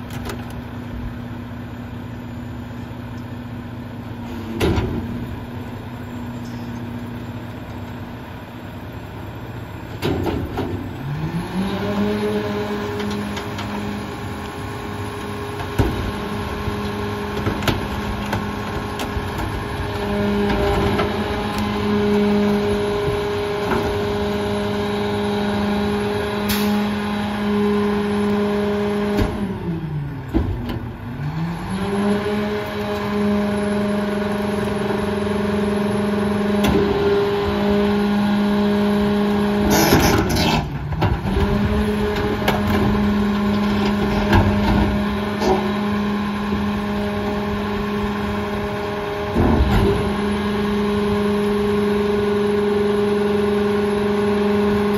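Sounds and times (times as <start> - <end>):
garbage truck engine running: 0.0 - 54.9.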